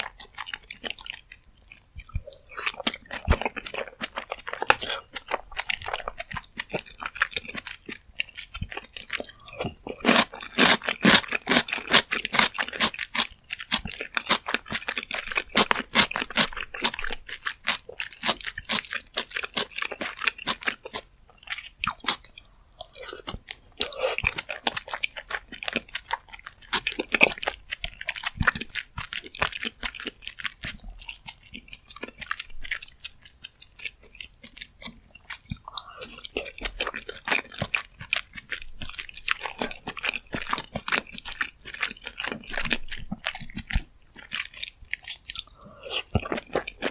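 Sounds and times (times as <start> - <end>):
person chewing wet smacks: 0.0 - 46.9.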